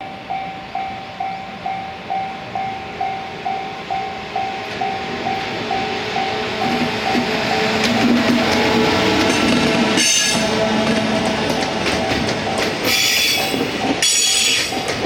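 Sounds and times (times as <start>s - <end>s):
level crossing warning bell: 0.0s - 8.1s, 8.7s - 15.0s
freight train rumble: 0.0s - 15.0s.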